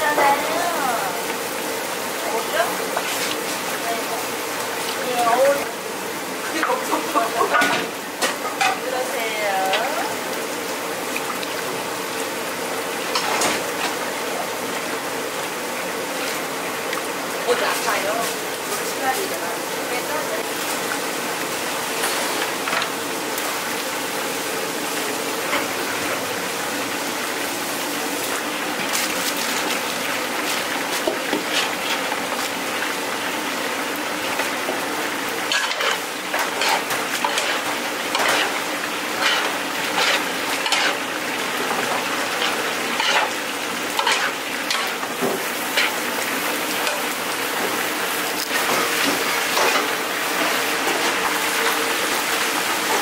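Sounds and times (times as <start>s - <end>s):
sauce sizzling in frying pan: 0.0s - 53.0s.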